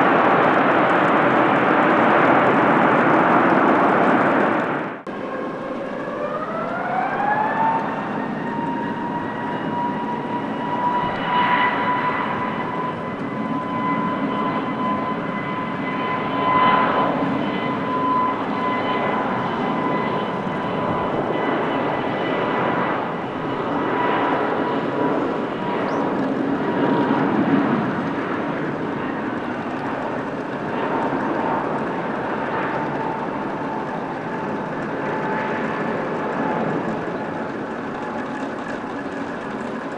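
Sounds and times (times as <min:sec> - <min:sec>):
jet engine whine: 0:00.0 - 0:39.9
jet exhaust roar: 0:00.0 - 0:39.9.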